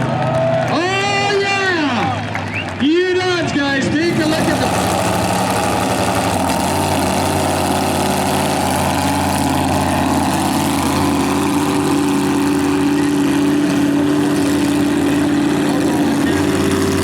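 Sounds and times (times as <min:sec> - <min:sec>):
tractor engine running: 0:00.9 - 0:17.0.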